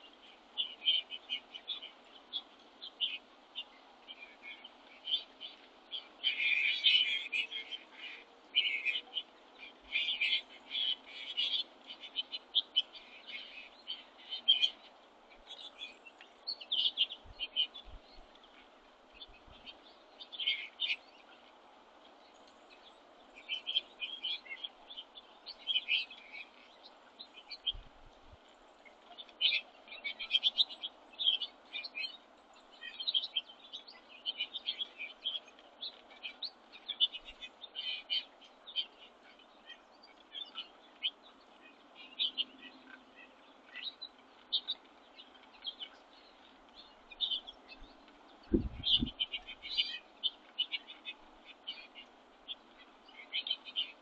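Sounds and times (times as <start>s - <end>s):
small songbirds chirping: 0.0s - 54.0s
steady background hiss: 0.0s - 54.0s.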